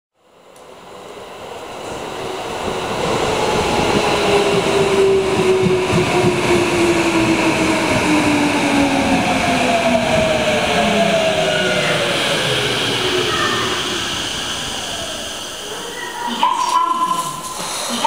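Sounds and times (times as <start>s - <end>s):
train rumble: 0.8s - 18.0s.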